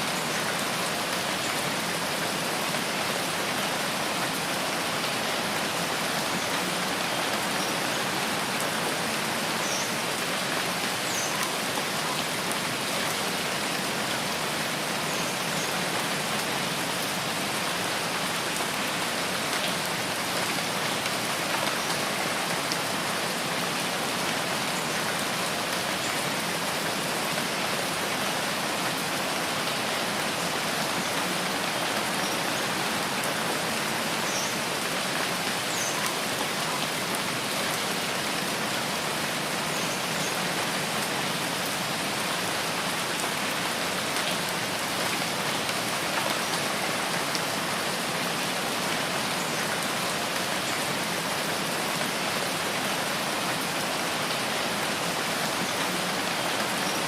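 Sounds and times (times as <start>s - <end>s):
rain on foliage: 0.0s - 57.0s.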